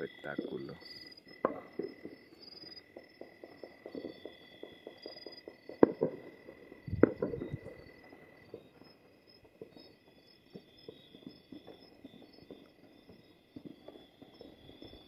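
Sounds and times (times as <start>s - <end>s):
crickets chirping: 0.0s - 15.0s
distant firecrackers crackling: 0.0s - 15.0s.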